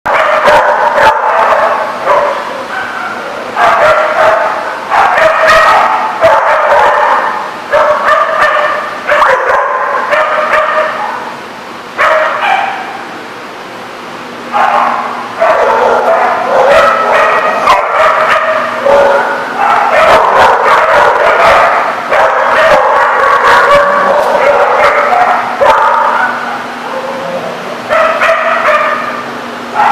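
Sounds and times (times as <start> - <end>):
dogs barking and yipping: 0.1 - 11.4, 12.0 - 13.0, 14.5 - 29.9.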